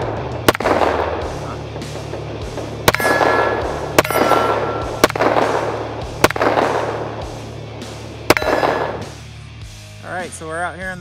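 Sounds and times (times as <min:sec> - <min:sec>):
pistol shots with echo: 0:00.0 - 0:09.2.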